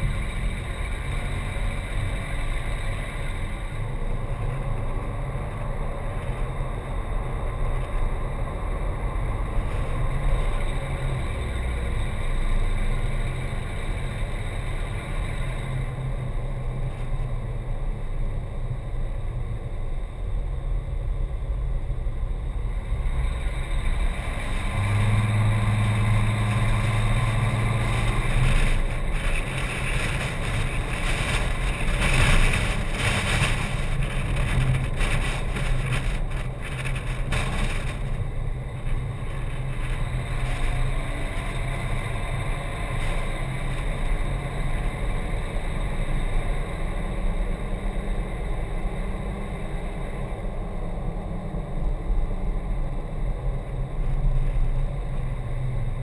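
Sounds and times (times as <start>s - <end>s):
road and air noise: 0.0s - 56.0s
vehicle engine hum: 0.0s - 56.0s.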